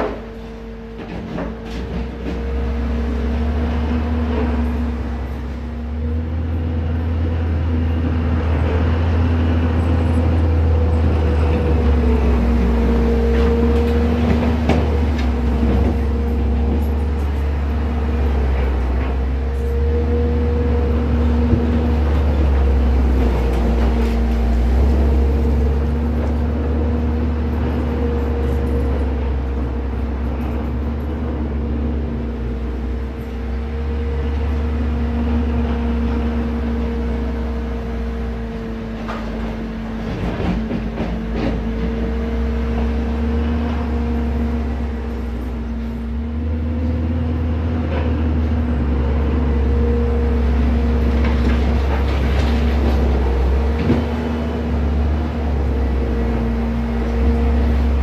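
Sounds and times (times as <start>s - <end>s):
diesel engine rumbling: 0.0s - 58.0s.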